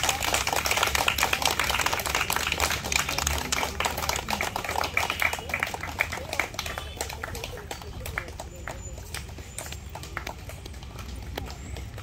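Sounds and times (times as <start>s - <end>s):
group of people clapping: 0.0s - 12.0s.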